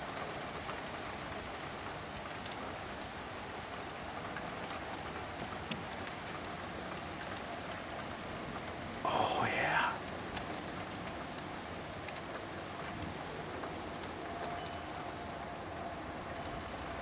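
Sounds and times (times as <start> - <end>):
raindrops ticking on surfaces: 0.0 - 17.0
steady rain hiss: 0.0 - 17.0.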